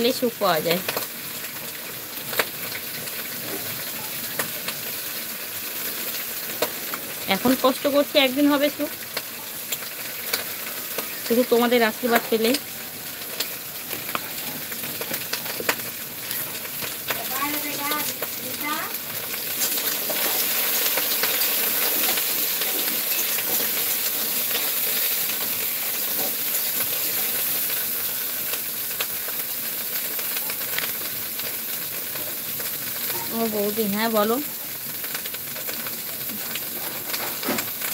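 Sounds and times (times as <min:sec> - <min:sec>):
food sizzling in hot oil: 0:00.0 - 0:37.9.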